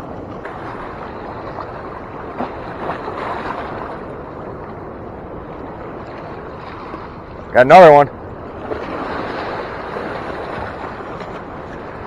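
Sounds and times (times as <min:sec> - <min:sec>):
fast-moving river water rushing: 0:00.0 - 0:12.0.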